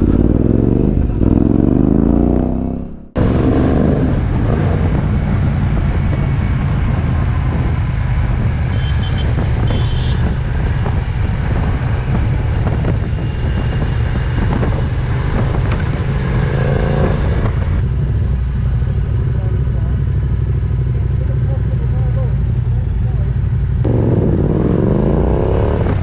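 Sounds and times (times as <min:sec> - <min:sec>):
wind and road rush: 0:00.0 - 0:26.0.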